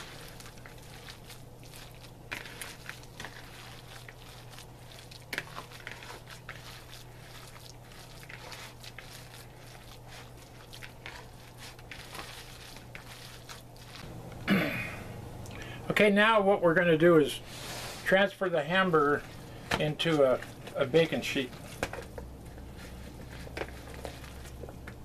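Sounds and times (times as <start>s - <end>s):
hands squelching raw meat: 0.0s - 14.1s, 18.8s - 25.0s.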